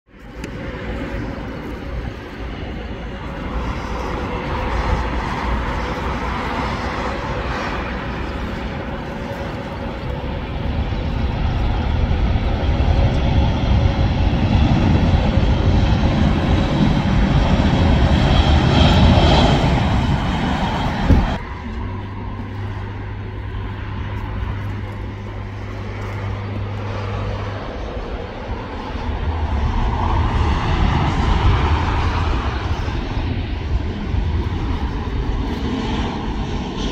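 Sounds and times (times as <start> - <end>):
jet engines humming low: 0.1 - 36.9
jet engines roaring and whining: 0.1 - 36.9.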